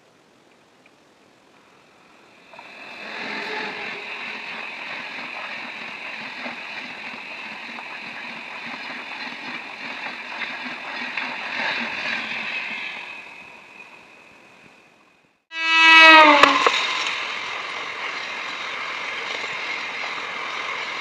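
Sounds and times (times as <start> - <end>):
train rushing past: 1.8 - 21.0
wheels clattering on rails: 2.2 - 15.1, 16.1 - 21.0.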